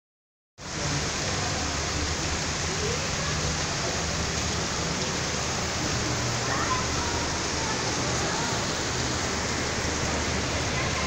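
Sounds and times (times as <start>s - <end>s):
heavy rain pouring: 0.6s - 11.0s.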